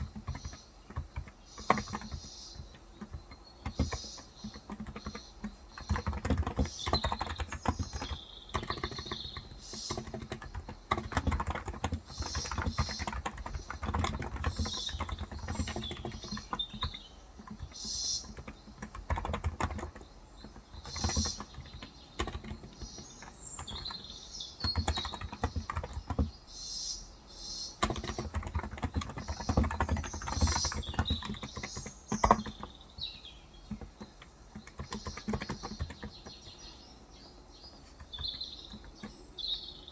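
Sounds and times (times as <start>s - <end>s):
keyboard typing: 0.0s - 26.4s, 27.8s - 33.0s, 33.6s - 36.7s, 37.7s - 39.7s
birds chirping: 0.0s - 39.9s.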